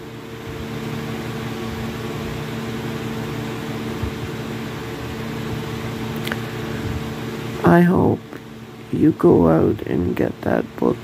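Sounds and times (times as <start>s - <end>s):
machine humming with hiss: 0.0s - 11.0s.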